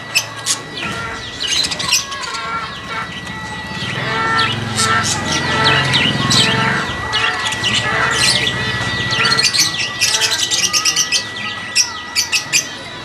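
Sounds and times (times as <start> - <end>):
birds chirping: 0.0 - 13.0
thin steady high tone: 0.0 - 13.0.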